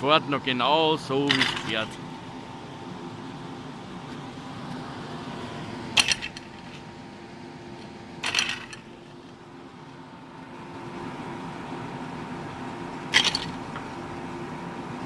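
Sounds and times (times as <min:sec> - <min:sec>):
lift machinery hum: 0:00.0 - 0:15.0.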